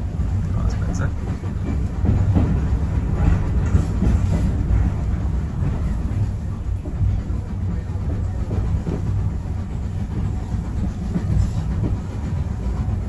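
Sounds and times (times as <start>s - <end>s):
train carriage low rumble: 0.0s - 13.0s
wheel-on-rail clatter: 0.0s - 13.0s.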